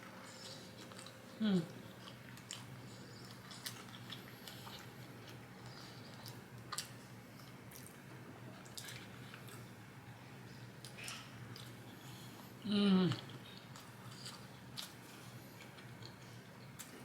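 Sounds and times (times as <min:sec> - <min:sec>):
low steady hum: 0:00.0 - 0:17.0
person chewing with wet smacks: 0:00.2 - 0:09.7, 0:10.8 - 0:17.0.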